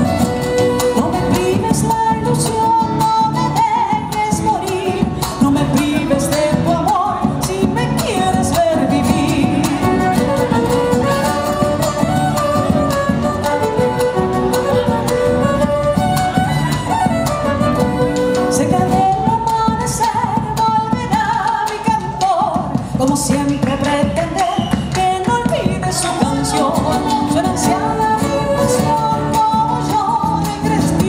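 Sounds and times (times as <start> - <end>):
woman singing: 0.0 - 15.7, 16.7 - 31.0
violin: 0.0 - 24.3, 25.1 - 31.0
acoustic guitar: 0.0 - 31.0.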